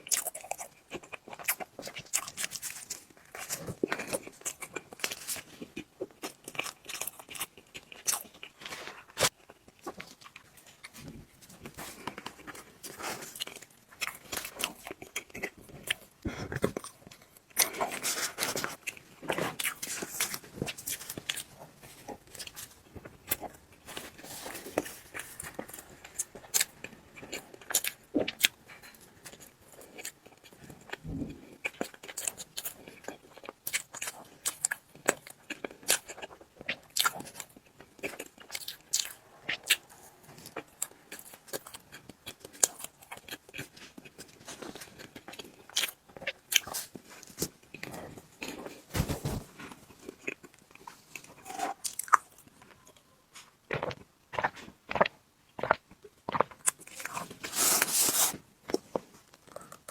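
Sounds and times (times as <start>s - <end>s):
chewing and wet mouth noises: 0.0s - 48.8s, 49.6s - 59.9s.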